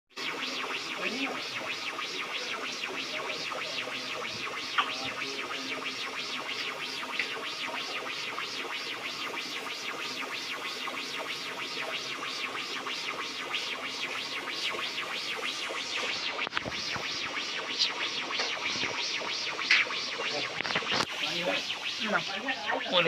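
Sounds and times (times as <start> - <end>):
electronic music with scratchy beat: 0.2 - 23.0.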